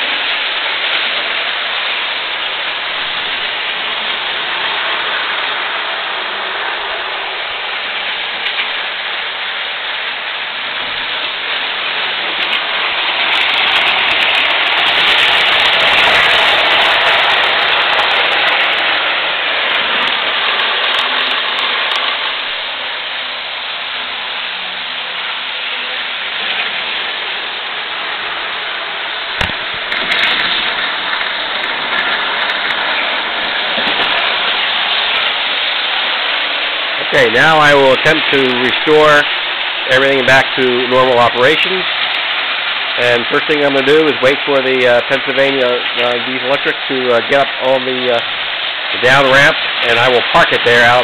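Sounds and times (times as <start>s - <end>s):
model trains rattling on track: 0.0s - 51.0s.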